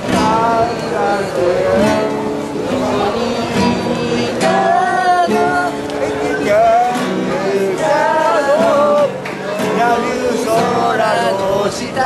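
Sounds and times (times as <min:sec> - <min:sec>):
acoustic guitar strumming: 0:00.0 - 0:12.0
person singing: 0:00.0 - 0:12.0.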